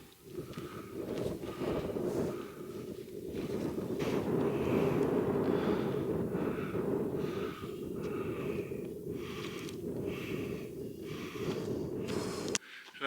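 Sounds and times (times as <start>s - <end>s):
wind buffeting microphone: 0.0s - 12.6s
heavy breathing: 0.3s - 13.0s.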